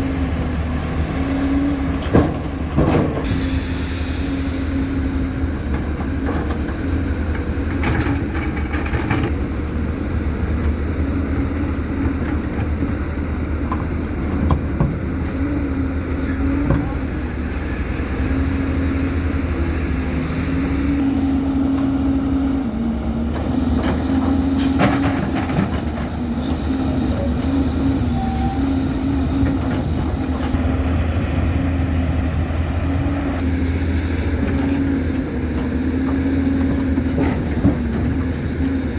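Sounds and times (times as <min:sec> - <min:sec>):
diesel machinery engine: 0:00.0 - 0:38.9.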